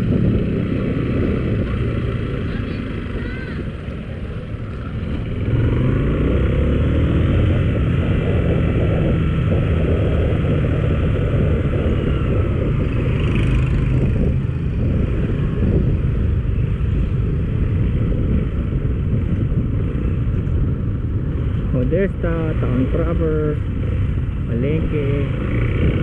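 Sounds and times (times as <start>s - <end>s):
motorcycle engine running: 0.0s - 26.0s
road and wind noise: 0.0s - 26.0s.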